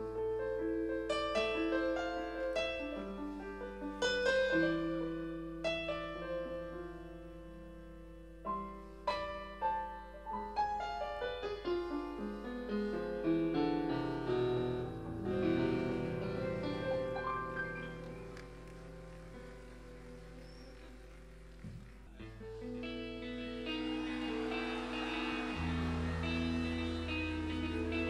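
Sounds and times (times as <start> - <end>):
solo piano chords and notes: 0.0 - 22.8.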